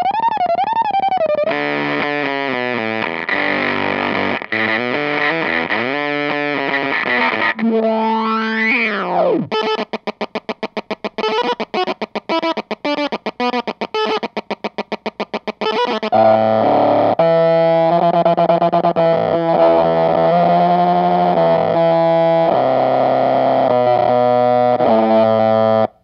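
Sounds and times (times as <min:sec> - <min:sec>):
fuzz electric guitar: 0:00.0 - 0:26.0.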